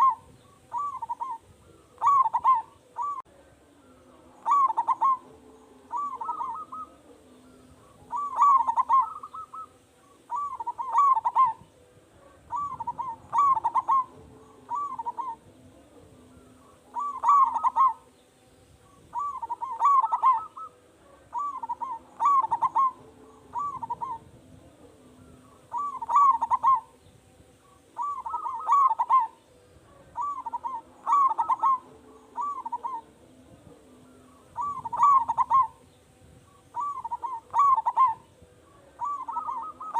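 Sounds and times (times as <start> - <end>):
dove cooing: 0.0 - 18.2, 18.8 - 35.9, 36.5 - 39.9.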